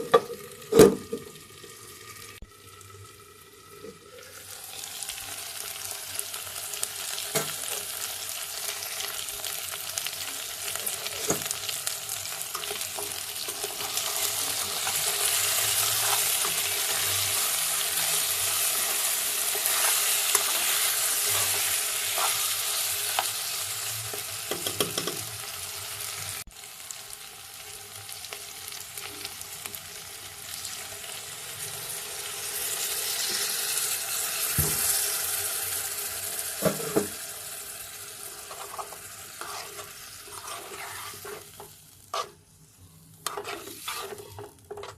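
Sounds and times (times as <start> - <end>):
food sizzling in a pan: 0.0 - 44.9.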